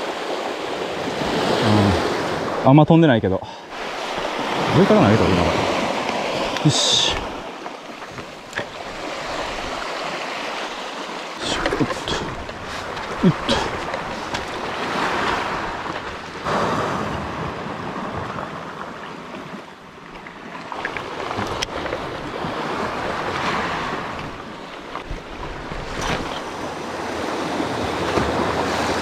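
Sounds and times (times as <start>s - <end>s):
surf washing onto rocky shore: 3.7s - 19.2s, 20.4s - 29.0s.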